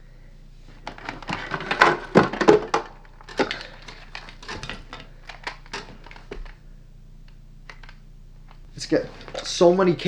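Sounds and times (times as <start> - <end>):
hard drive and cables rattling: 0.8 - 6.6, 7.2 - 9.8.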